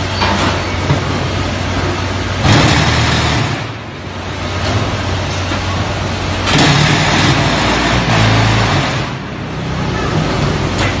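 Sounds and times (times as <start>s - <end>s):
block making machine running: 0.0s - 11.0s.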